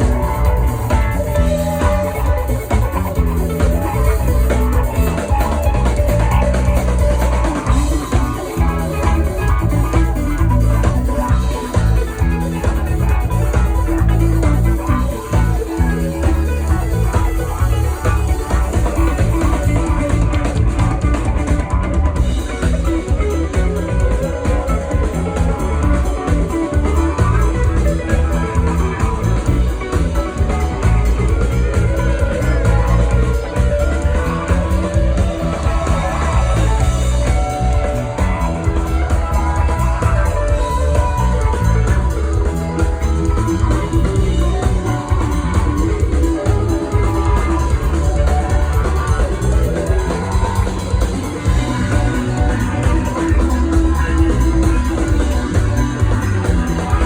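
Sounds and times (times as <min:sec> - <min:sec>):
bass guitar: 0:00.0 - 0:57.0
drum kit: 0:00.0 - 0:57.0
electric guitar: 0:00.0 - 0:57.0
rock funk band playing: 0:00.0 - 0:57.0.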